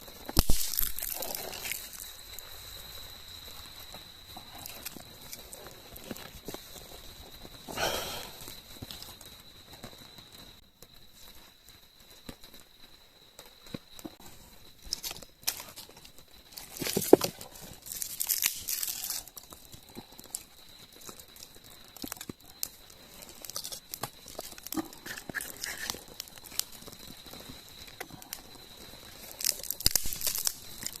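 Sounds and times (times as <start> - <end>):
crinkling and rustling: 0.0 - 7.8, 8.4 - 31.0.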